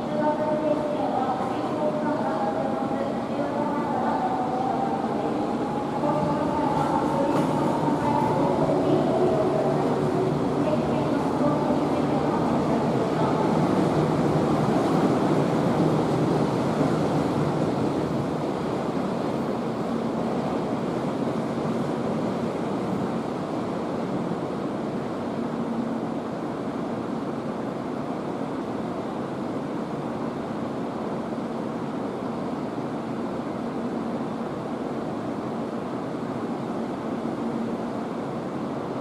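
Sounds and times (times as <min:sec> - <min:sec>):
electric trains rolling rumble: 0:00.0 - 0:39.0
faint hum: 0:00.0 - 0:39.0.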